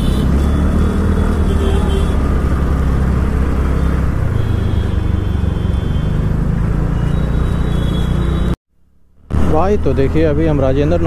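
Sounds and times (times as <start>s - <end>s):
scooter riding in traffic: 0.0s - 11.0s.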